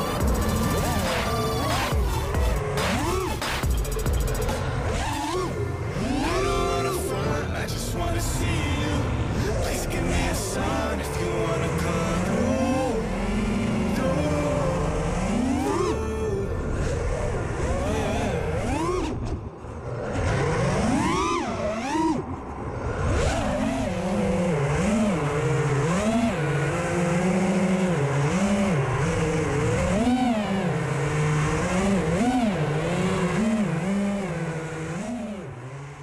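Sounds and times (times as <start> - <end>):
drone motors whining: 0.0 - 36.0.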